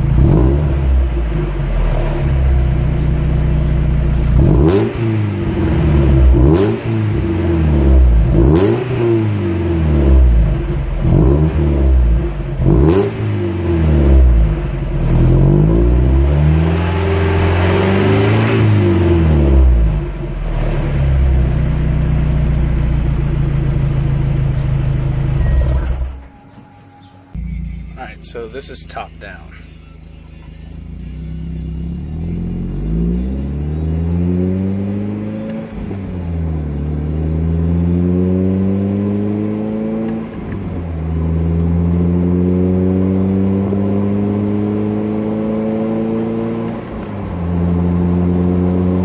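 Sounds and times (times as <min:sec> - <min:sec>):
car engine revving: 0:00.0 - 0:26.4, 0:30.2 - 0:49.0.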